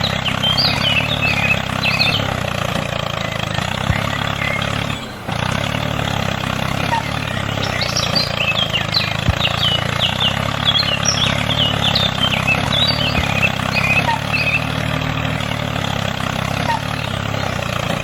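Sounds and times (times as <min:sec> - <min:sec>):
low engine drone: 0:00.0 - 0:18.0
small birds chirping: 0:00.0 - 0:18.0.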